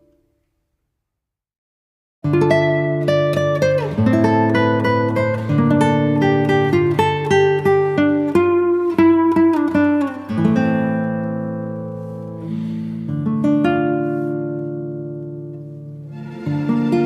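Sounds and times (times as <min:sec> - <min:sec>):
acoustic guitar chords: 0:02.2 - 0:17.0.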